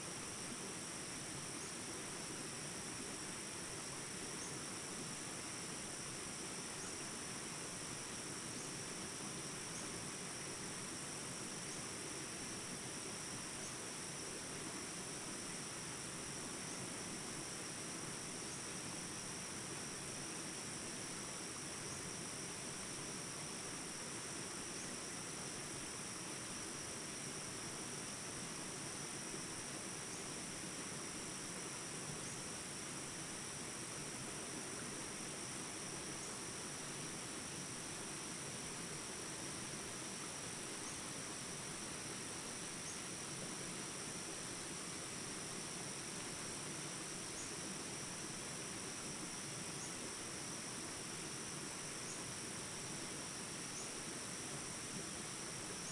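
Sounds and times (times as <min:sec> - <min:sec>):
insects chirring: 0:00.0 - 0:55.9.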